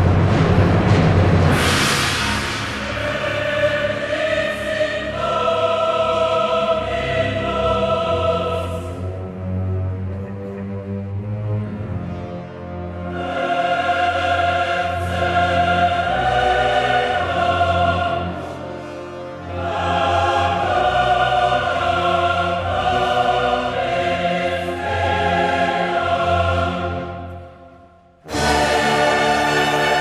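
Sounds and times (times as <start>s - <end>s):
choir singing sustained chords: 0.0s - 30.0s
low orchestral bass: 0.0s - 30.0s.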